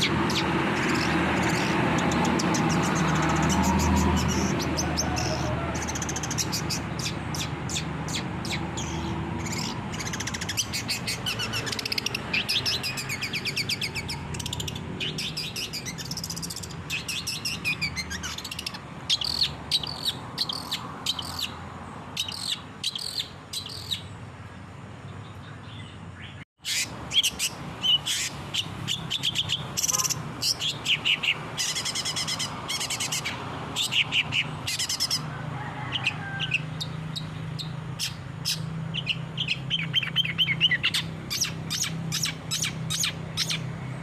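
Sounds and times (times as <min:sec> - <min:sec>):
shrike chattering song: 0:00.0 - 0:24.2, 0:26.2 - 0:35.3, 0:35.9 - 0:43.8.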